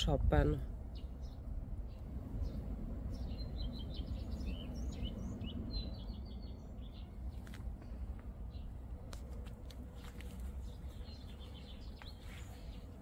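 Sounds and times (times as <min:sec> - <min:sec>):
songbird chirps and trills: 0:00.0 - 0:13.0
steady low rumble: 0:00.0 - 0:13.0.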